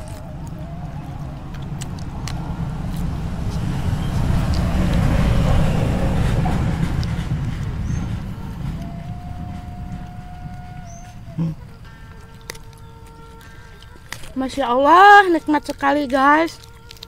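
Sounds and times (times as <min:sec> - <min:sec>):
clicks of eating by hand: 0:00.0 - 0:09.1, 0:09.8 - 0:17.0
vehicle passing rumble: 0:00.0 - 0:17.0.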